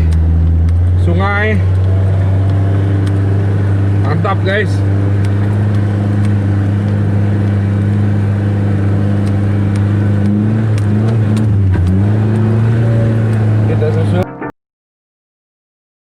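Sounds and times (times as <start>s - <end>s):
off-road vehicle engine running: 0.0s - 14.2s.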